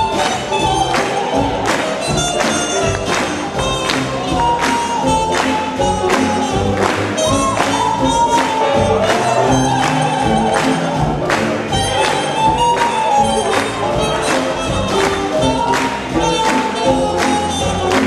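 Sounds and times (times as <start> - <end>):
swing band music: 0.0 - 18.0.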